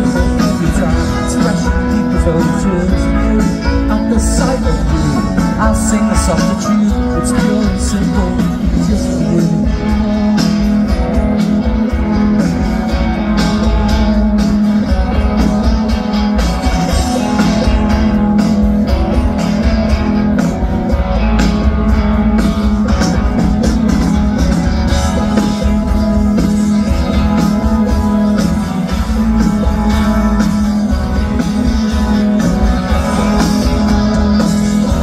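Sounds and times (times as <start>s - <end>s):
rock band playing live: 0.0s - 35.0s.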